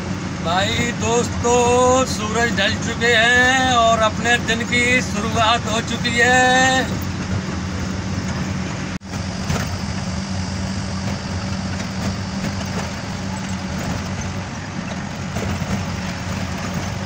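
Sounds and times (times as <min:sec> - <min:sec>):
diesel truck engine hum: 0:00.0 - 0:17.0
road noise: 0:00.0 - 0:17.0.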